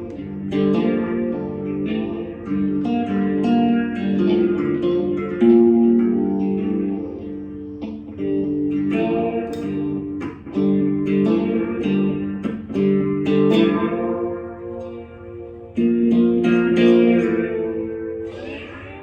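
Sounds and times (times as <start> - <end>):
guitar chords ringing: 0.0 - 19.0.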